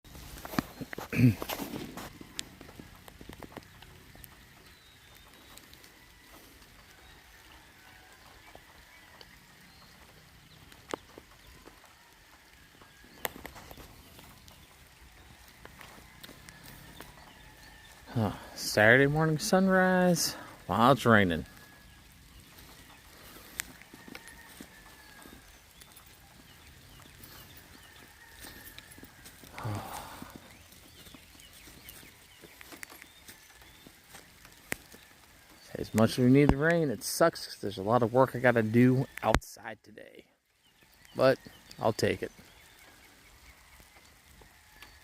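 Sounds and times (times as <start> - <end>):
drops ticking and dripping: 0.1 - 39.7
light rain hissing: 0.1 - 45.0.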